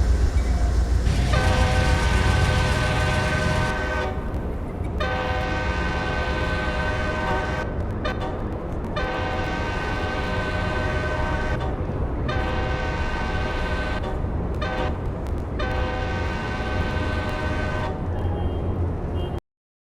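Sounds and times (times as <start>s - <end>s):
train air horn: 0.0s - 4.3s, 5.0s - 8.4s, 9.0s - 15.0s, 15.6s - 18.6s
train rumble: 0.0s - 19.1s.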